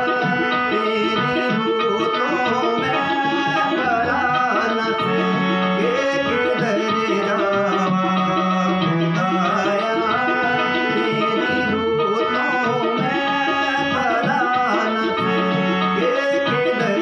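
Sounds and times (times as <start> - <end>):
harmonium chords: 0.0 - 17.0
man singing devotional song: 0.0 - 17.0.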